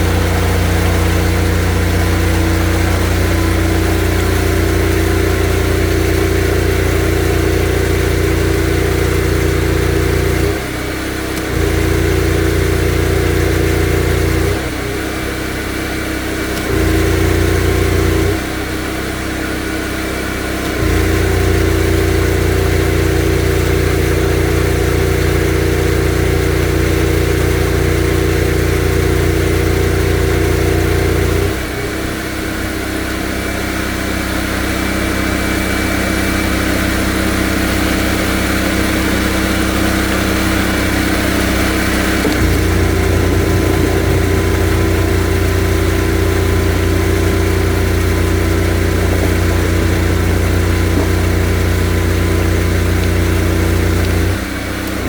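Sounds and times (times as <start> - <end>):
drain jetter engine running: 0.0 - 55.0.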